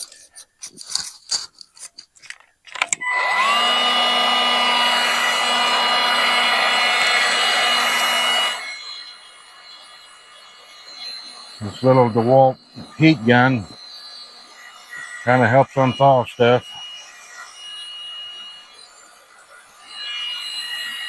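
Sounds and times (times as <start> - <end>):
heat gun fan motor whine: 2.7 - 21.0.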